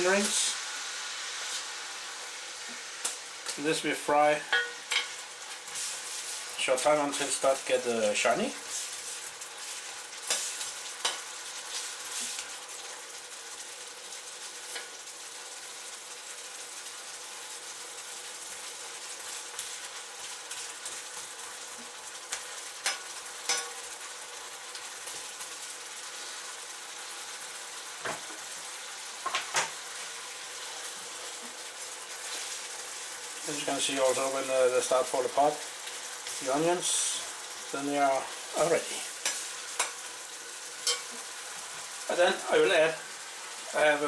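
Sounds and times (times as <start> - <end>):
food sizzling in hot oil: 0.0 - 44.0.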